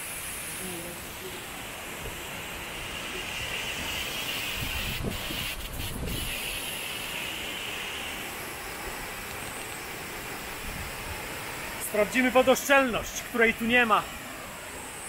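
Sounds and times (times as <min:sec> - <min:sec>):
waterfall rushing: 0:00.0 - 0:05.2, 0:06.3 - 0:15.0.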